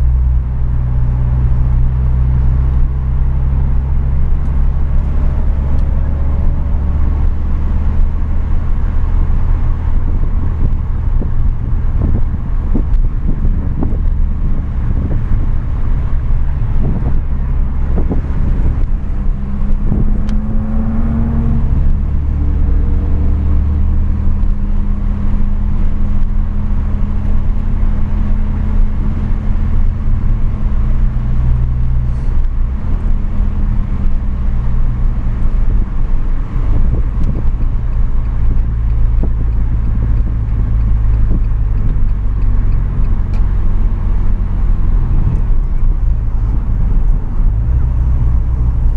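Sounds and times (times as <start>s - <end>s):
car engine running hard: 0.0s - 48.9s
road noise: 0.0s - 48.9s.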